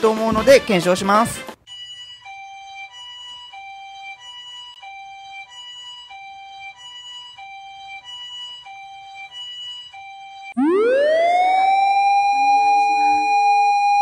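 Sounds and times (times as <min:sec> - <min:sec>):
ambulance siren from phone speaker: 0:01.7 - 0:14.0.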